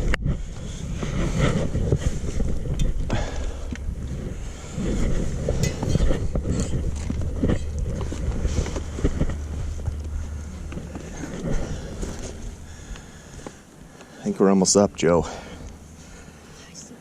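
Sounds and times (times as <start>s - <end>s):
wind buffeting microphone: 0.0s - 13.8s
knocks and rustles: 0.0s - 13.9s.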